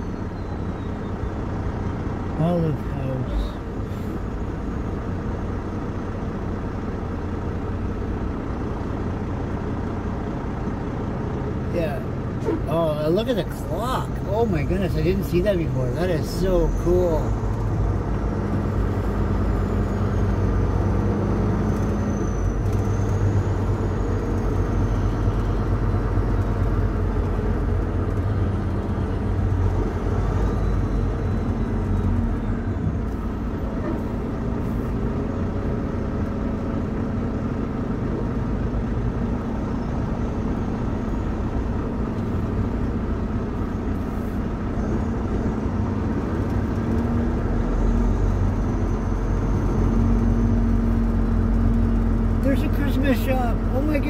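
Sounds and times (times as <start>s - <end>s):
truck diesel engine humming: 0.0s - 54.0s.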